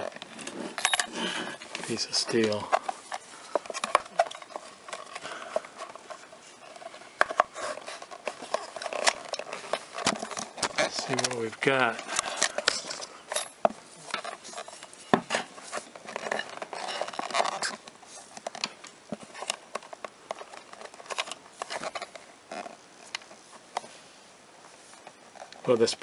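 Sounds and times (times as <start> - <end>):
plastic and metal handling clicks: 0.0 - 23.9.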